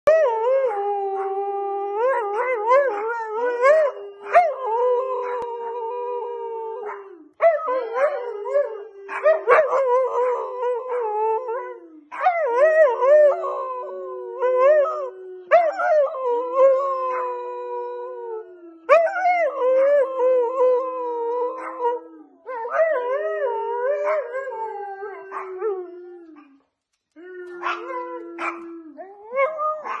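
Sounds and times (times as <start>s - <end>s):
dog howling: 0.1s - 26.6s, 27.2s - 30.0s.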